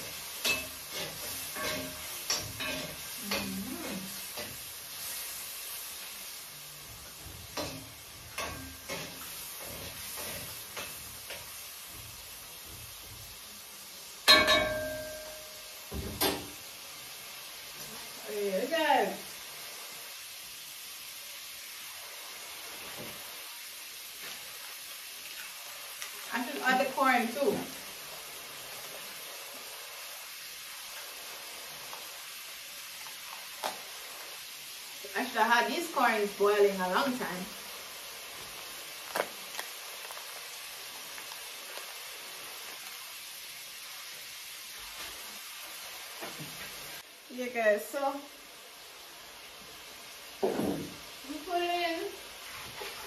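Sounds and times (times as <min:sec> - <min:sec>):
shrimp sizzling in oil: 0:00.0 - 0:53.0.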